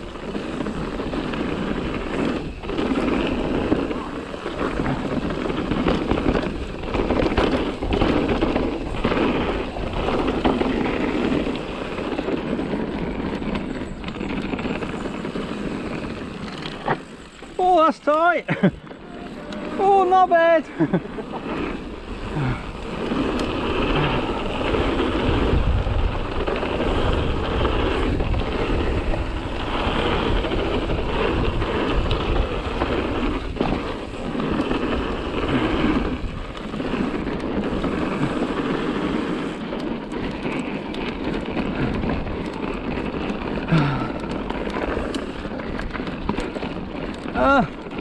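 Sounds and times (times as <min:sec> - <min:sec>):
wind rushing over microphone: 0:00.0 - 0:18.0, 0:18.6 - 0:48.0
bike tyres rolling on dirt: 0:00.0 - 0:48.0.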